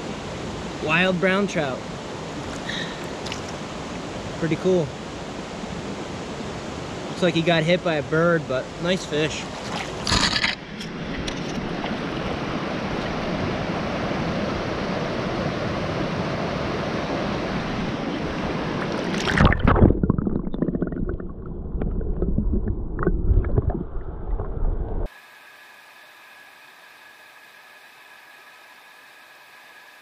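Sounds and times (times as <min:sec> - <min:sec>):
stream water flowing: 0:00.0 - 0:30.0.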